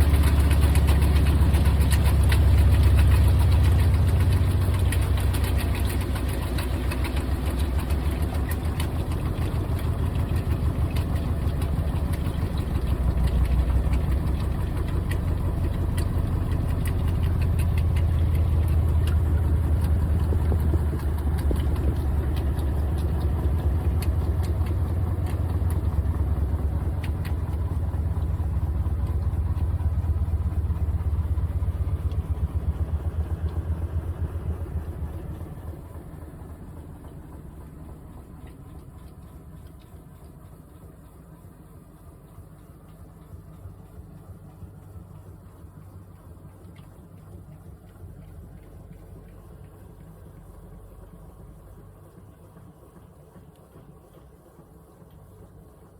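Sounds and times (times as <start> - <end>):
washing machine humming and rattling: 0.0 - 55.9.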